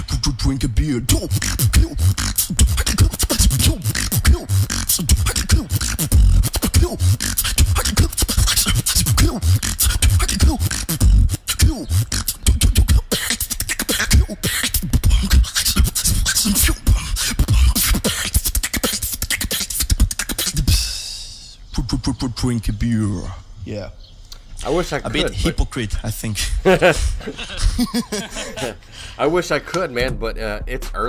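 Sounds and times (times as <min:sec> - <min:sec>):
person beatboxing: 0:00.0 - 0:23.4, 0:25.1 - 0:26.1, 0:26.8 - 0:28.8.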